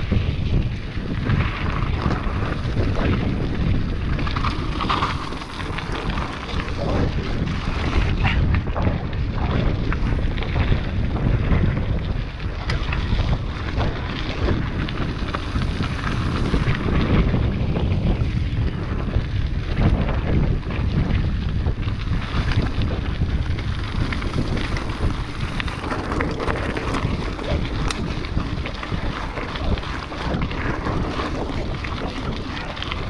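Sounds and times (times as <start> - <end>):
bike rattling over rocks: 0.0 - 33.0
bike tyres rumbling on gravel: 0.0 - 33.0
wind buffeting microphone: 0.0 - 33.0.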